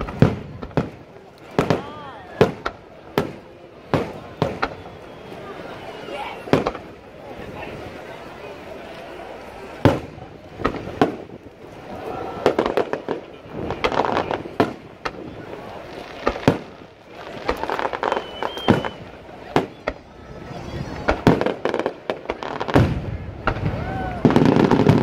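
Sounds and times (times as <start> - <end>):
firework crackling: 0.0 - 25.0
onlookers' voices: 0.0 - 25.0.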